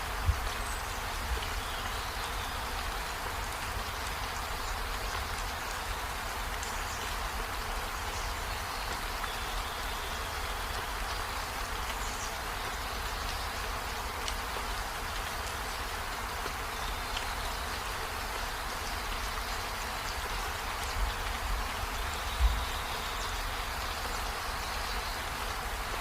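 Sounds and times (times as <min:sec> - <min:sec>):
steady rain: 0:00.0 - 0:26.0
raindrop ticks: 0:00.1 - 0:26.0.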